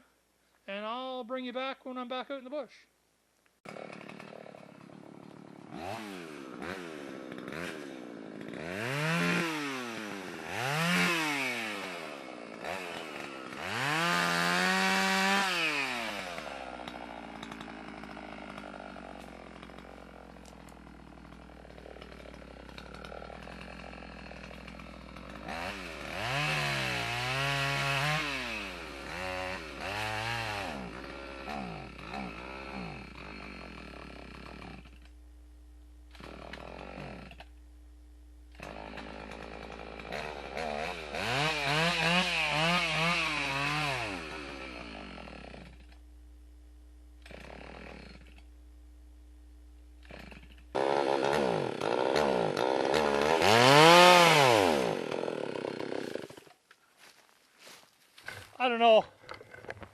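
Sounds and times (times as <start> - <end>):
chainsaw engine revving: 3.6 - 35.1, 36.1 - 37.5, 38.5 - 46.0, 47.2 - 48.5, 50.0 - 56.6.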